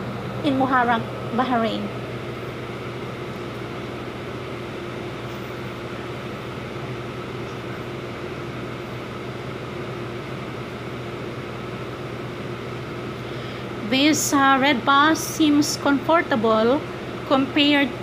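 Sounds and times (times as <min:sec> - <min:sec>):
air conditioning hum: 0:00.0 - 0:18.0.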